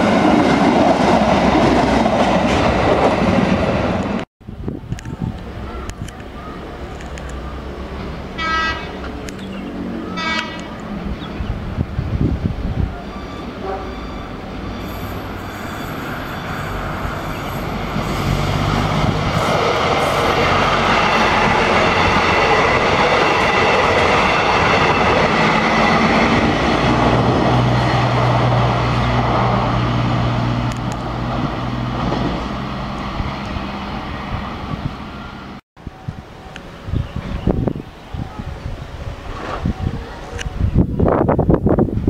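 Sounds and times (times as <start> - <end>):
train wheels on rails: 0.0 - 37.7.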